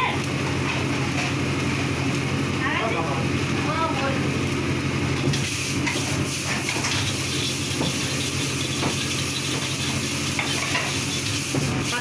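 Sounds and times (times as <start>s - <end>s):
gas burner hissing: 0.0s - 12.0s
noodles sizzling in a wok: 0.0s - 12.0s.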